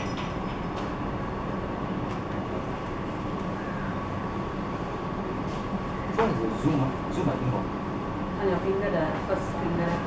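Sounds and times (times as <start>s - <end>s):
low hum and rumble: 0.0s - 10.0s.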